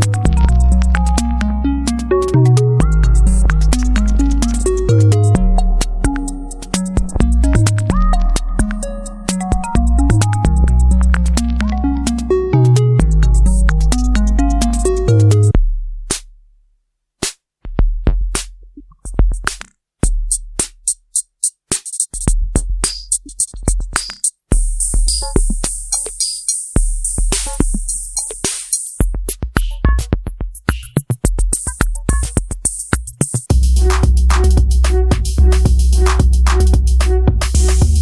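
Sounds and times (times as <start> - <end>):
drum machine beat: 0.0 - 16.3, 17.2 - 38.0.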